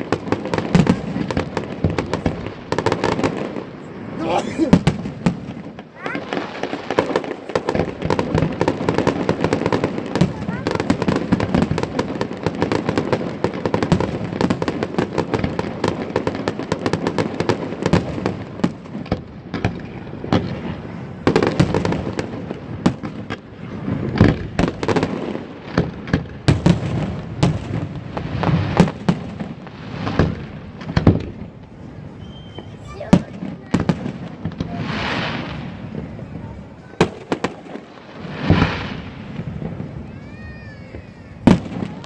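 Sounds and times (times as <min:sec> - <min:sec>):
firework booms: 0:00.0 - 0:42.0
fireworks crackling and popping: 0:00.0 - 0:42.0.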